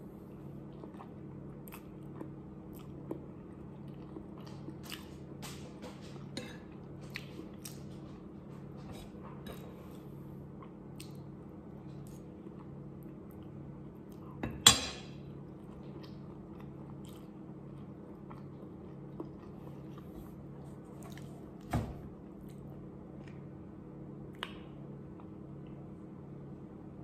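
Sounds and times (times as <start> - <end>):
soft chewing of noodles: 0.0 - 14.4, 15.3 - 21.6, 22.2 - 26.2.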